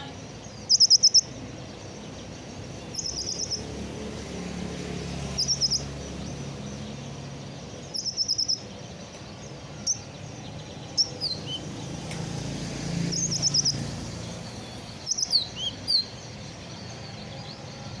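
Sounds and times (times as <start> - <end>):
bird singing chirps and trills: 0.0 - 18.0.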